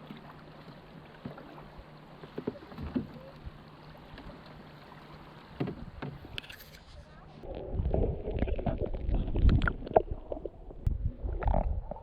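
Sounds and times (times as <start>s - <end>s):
paddle strokes: 0.0s - 10.5s
water sloshing around hull: 0.0s - 12.0s.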